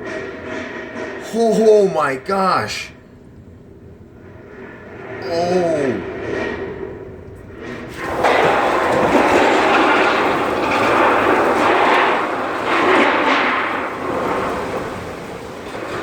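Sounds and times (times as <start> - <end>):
strong gusting wind: 1.2 - 16.0.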